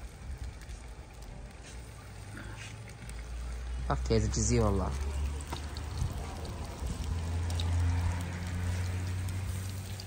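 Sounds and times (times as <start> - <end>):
fish sizzling in hot oil: 0.0 - 10.0
oil popping: 0.0 - 10.0.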